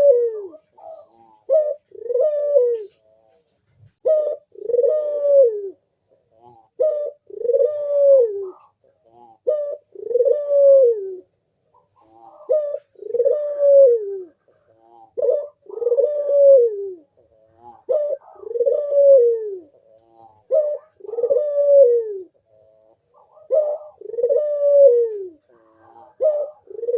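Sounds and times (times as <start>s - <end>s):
dove cooing: 0.0s - 26.9s.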